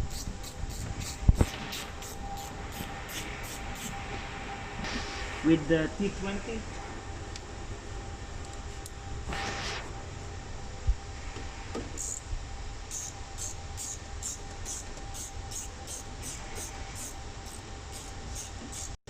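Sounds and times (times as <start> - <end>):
tool scraping hiss: 0.0 - 6.6, 8.8 - 10.1, 11.5 - 19.0
low steady hum: 0.0 - 19.0.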